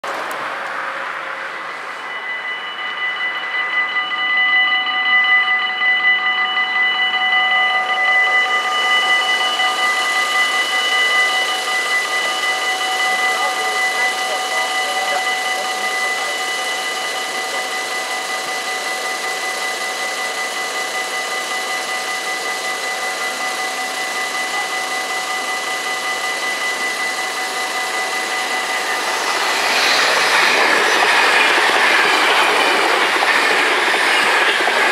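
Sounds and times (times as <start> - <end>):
level crossing bells ringing: 0.8 - 34.9.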